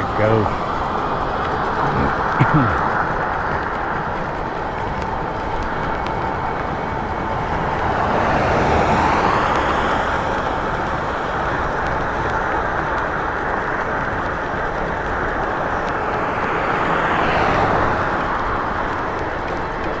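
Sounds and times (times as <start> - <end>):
wind and road rushing: 0.0 - 20.0.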